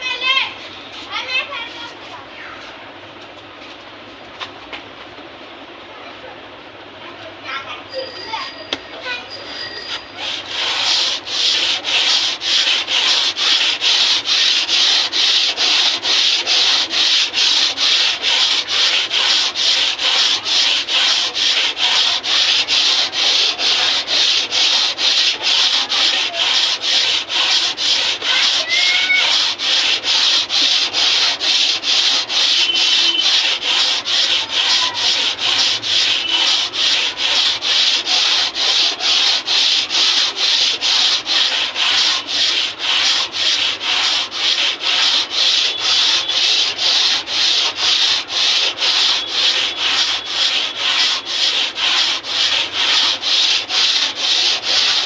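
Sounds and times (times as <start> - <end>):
sandpaper rubbing by hand: 9.3 - 55.0.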